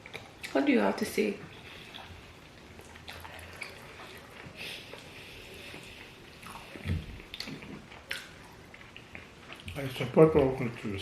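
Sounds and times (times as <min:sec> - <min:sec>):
chewing and mouth noises: 0:00.0 - 0:00.6, 0:01.5 - 0:10.9.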